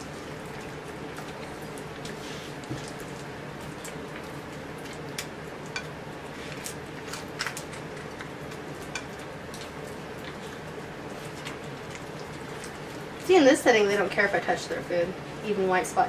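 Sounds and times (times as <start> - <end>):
dog chewing and licking: 0.0 - 13.3
steady low hum: 0.0 - 16.0.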